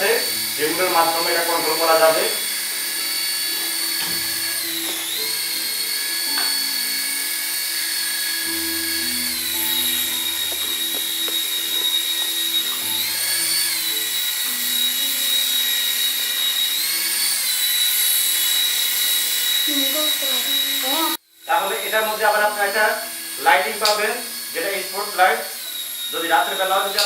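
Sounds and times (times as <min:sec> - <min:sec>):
toy helicopter motor whine: 0:00.0 - 0:27.0.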